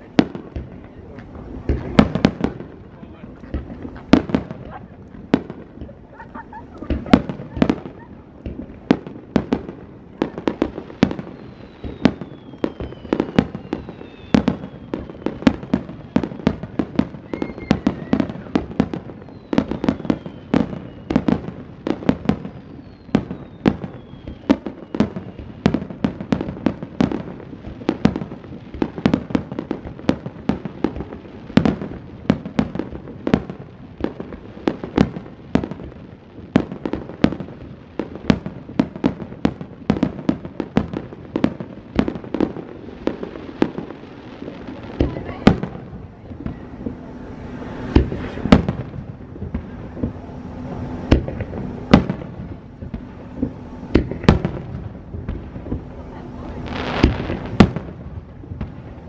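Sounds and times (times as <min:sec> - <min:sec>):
fireworks bangs: 0:00.0 - 0:59.0
fireworks whistles: 0:03.5 - 0:35.9, 0:36.6 - 0:59.0.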